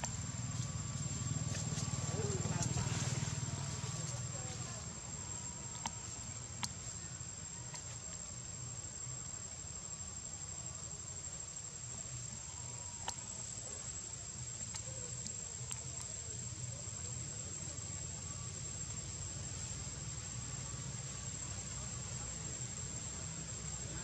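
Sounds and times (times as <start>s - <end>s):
insects calling high-pitched: 0.0s - 24.0s.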